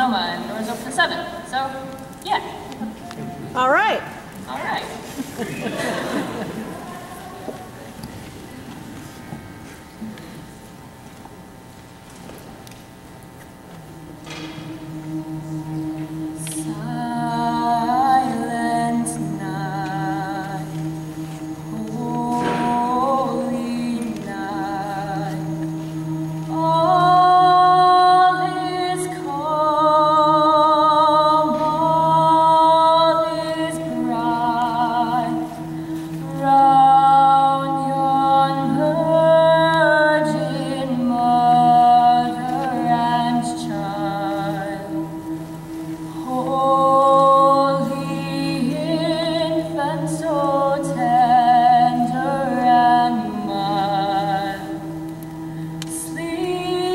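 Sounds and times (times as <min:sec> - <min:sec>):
woman singing with vibrato: 0:00.0 - 0:08.0, 0:13.8 - 0:56.9
choir holding low chords: 0:05.0 - 0:56.9.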